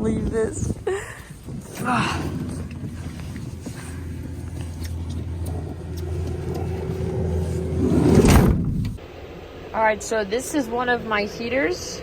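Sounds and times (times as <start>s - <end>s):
van engine and road noise: 0.0s - 9.7s.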